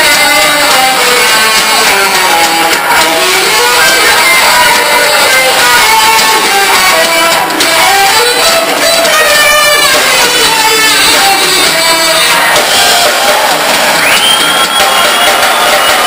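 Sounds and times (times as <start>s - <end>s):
drums: 0.0s - 16.0s
electric guitars strumming: 0.0s - 16.0s.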